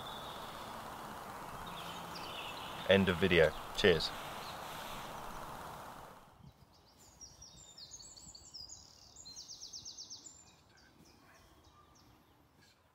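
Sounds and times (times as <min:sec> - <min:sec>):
soft outdoor hiss: 0:00.0 - 0:11.6
birds chirping and trilling: 0:00.0 - 0:12.9.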